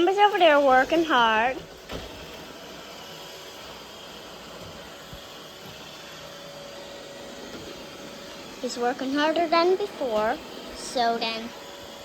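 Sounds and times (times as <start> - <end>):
robot vacuum hissing: 0.0 - 12.0.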